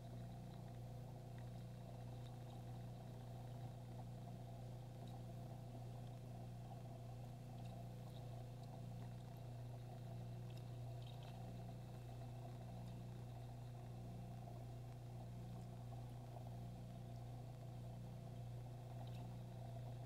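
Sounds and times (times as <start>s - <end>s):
aquarium equipment hum: 0.0s - 20.0s
faint ticks: 0.0s - 20.0s.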